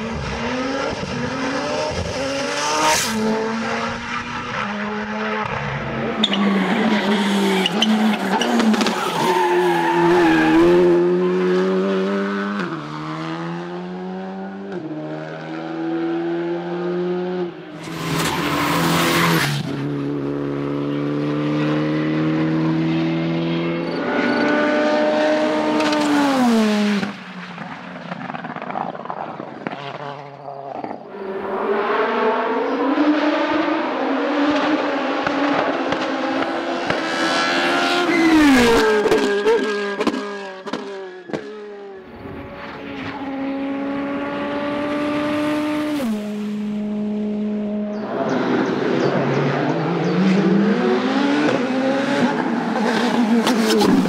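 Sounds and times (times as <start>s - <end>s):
race car engines at full throttle: 0.0s - 54.0s.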